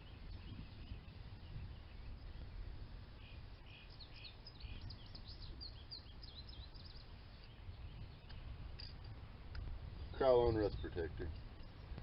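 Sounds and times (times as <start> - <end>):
faint low outdoor rumble: 0.0 - 12.0
small birds chirping: 0.0 - 12.0.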